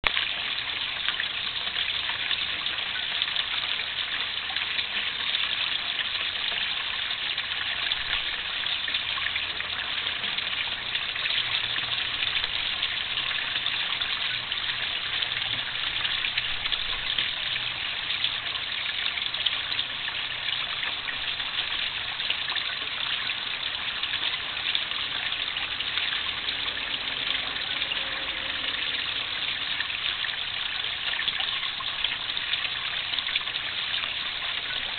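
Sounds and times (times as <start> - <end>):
water splashing in a pond: 0.0 - 34.9.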